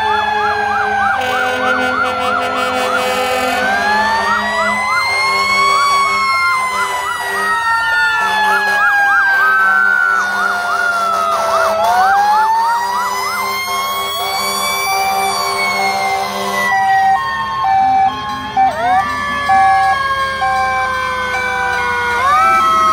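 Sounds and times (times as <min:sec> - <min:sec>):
siren wailing: 0:00.0 - 0:22.9
siren yelping in fast chirps: 0:00.2 - 0:22.9.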